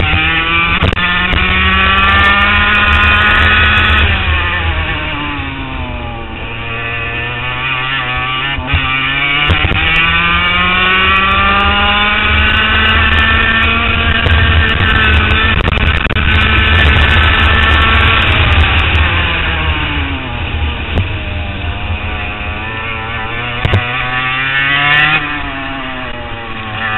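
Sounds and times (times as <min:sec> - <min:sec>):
kart engine revving: 0:00.0 - 0:26.9.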